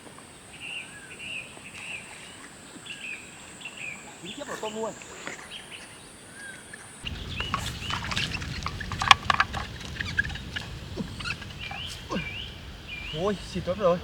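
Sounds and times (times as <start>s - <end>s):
outdoor background noise: 0.0s - 14.0s
small birds chirping: 0.0s - 14.0s.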